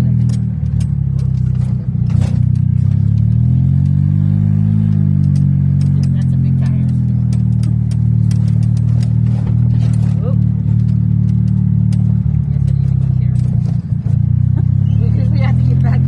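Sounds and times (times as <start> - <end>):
golf cart motor running: 0.0 - 16.0.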